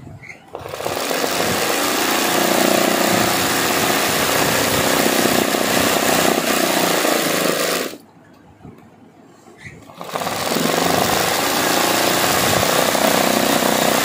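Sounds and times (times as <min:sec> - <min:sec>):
sewing machine running fast: 0:00.6 - 0:08.0, 0:10.0 - 0:14.0.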